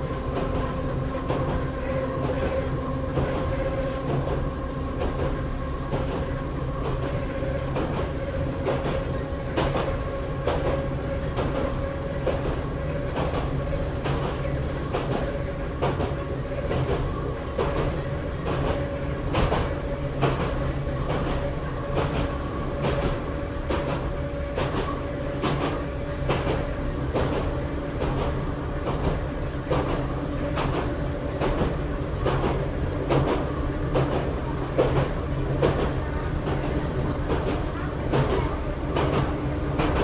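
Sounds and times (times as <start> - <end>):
railcar rumble and hum: 0.0 - 40.0.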